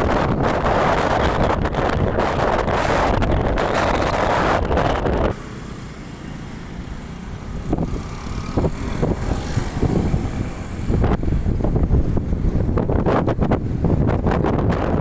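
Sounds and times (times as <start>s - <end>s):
wind buffeting microphone: 0.0s - 5.4s, 7.5s - 15.0s
low vehicle rumble: 0.0s - 15.0s.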